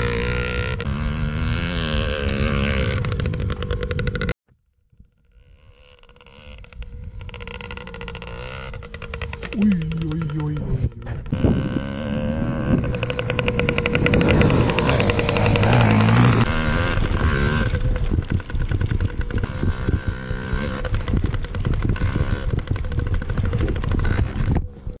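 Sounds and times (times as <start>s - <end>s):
two-stroke motorbike engine revving: 0.0s - 4.3s, 5.4s - 24.8s.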